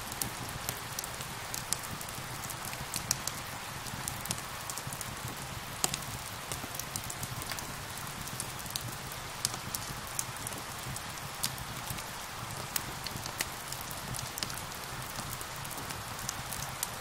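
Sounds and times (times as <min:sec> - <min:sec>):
fireplace fire crackling: 0:00.0 - 0:17.0
steady rain hiss: 0:00.0 - 0:17.0.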